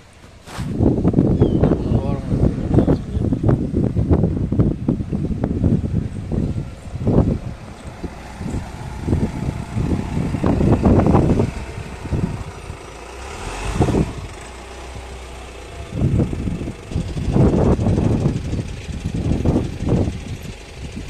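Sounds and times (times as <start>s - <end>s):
car engine running at low speed: 0.0s - 21.0s.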